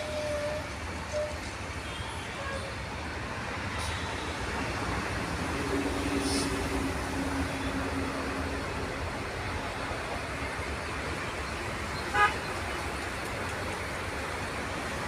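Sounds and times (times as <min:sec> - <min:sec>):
distant locomotive rumble: 0:00.0 - 0:15.0
road traffic: 0:00.0 - 0:15.0.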